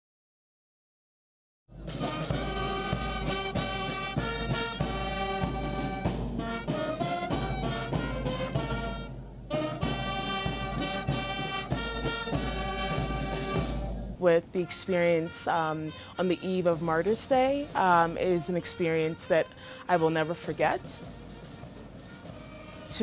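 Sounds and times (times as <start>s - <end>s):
music with brass and beat: 1.7s - 23.0s.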